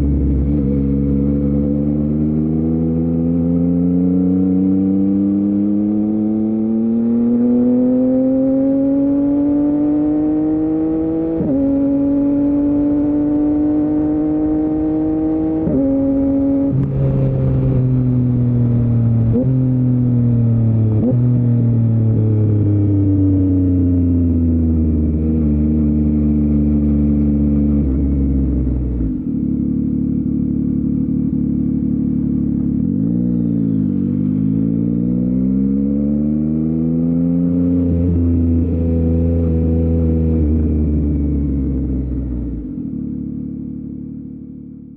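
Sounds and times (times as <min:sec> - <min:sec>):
motorcycle engine accelerating: 0:00.0 - 0:44.9
throttle blips on downshifts: 0:00.0 - 0:44.9.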